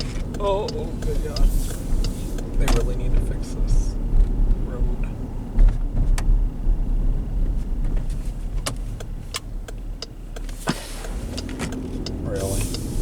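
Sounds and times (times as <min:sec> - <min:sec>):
low road rumble inside car: 0:00.0 - 0:13.0.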